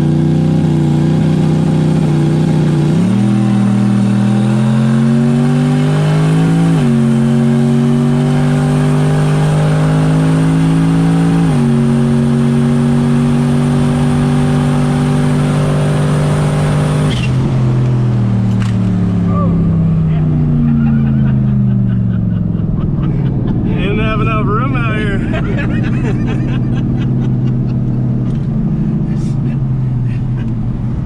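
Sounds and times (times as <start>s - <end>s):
truck engine accelerating and upshifting: 0.0s - 31.0s.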